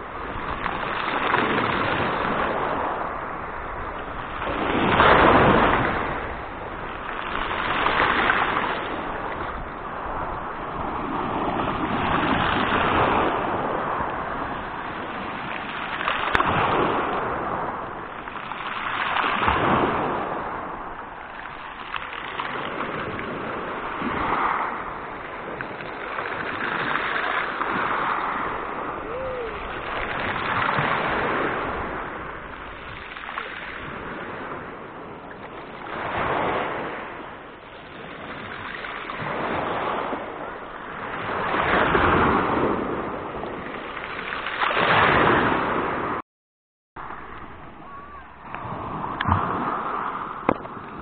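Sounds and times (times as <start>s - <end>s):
waves washing over pebbles: 0.0s - 46.2s, 47.0s - 51.0s.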